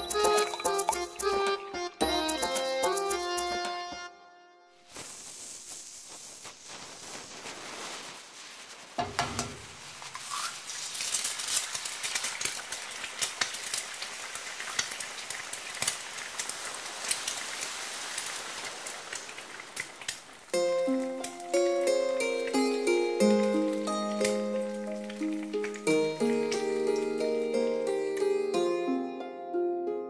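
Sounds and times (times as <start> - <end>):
egg frying sizzle with pops: 0.0 - 3.6, 4.8 - 28.8.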